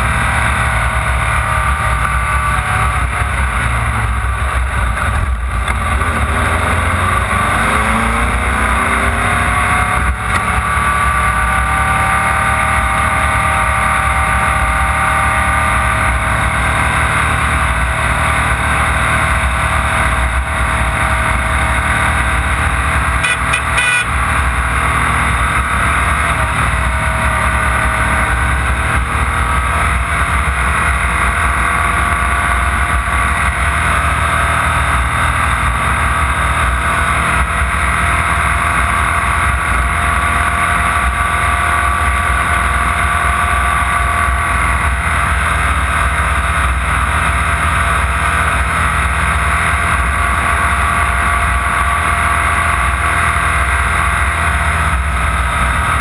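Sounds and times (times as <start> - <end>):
race vehicle engine revving: 0.0 - 56.0.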